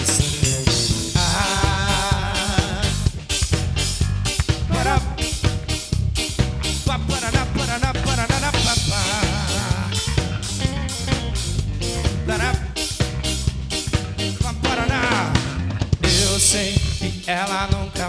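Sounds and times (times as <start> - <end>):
live reggae band: 0.0 - 18.0.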